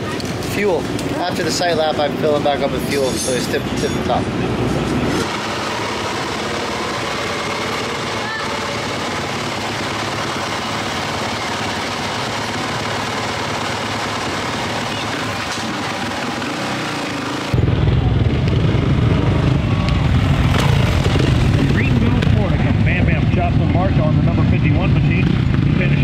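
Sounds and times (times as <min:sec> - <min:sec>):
motorcycle engine running: 0:03.6 - 0:26.0.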